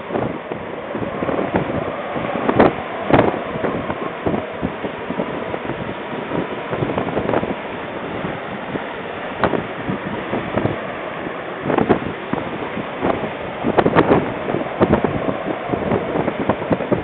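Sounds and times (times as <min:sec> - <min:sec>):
surf rushing over a seawall: 0:00.0 - 0:17.0
wind buffeting the microphone: 0:00.0 - 0:17.0.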